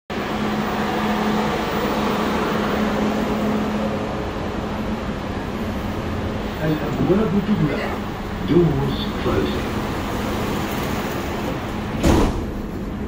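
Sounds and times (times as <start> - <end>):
train mechanical hum: 0.1 - 13.0.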